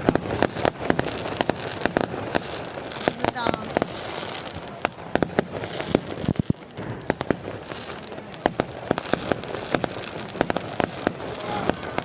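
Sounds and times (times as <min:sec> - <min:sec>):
fireworks crackle hiss: 0:00.0 - 0:12.0
fireworks cracks and pops: 0:00.0 - 0:12.0.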